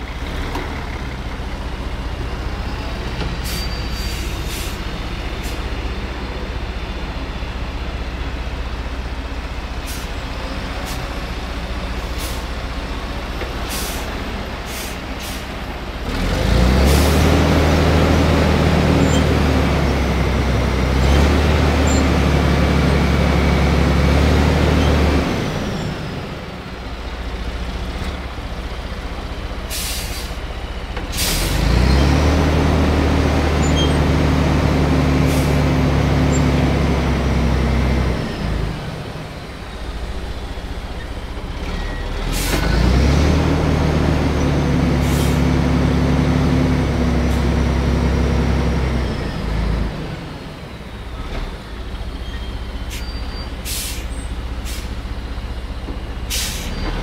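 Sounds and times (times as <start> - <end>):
diesel engine laboring loudly: 0.0 - 57.0.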